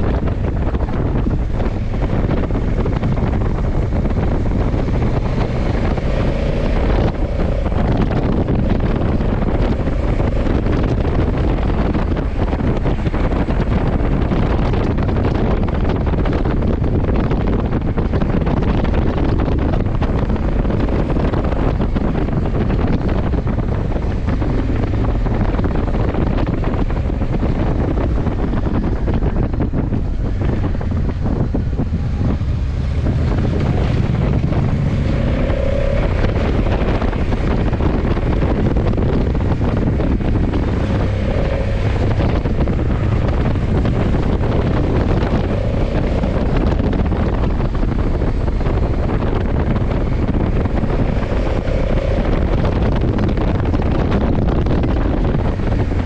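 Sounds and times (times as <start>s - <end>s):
motorcycle engine rumble: 0.0s - 56.0s
wind buffeting microphone: 0.0s - 56.0s.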